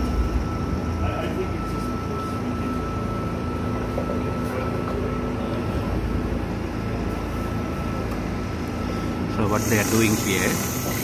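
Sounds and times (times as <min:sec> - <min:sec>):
faint high whine: 0:00.0 - 0:11.0
low machine rumble: 0:00.0 - 0:11.0.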